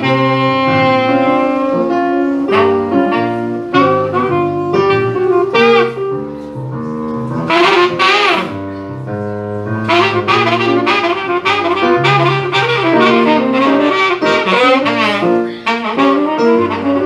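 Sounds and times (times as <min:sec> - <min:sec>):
keyboard chords and bass: 0:00.0 - 0:17.0
saxophone melody: 0:00.0 - 0:17.0.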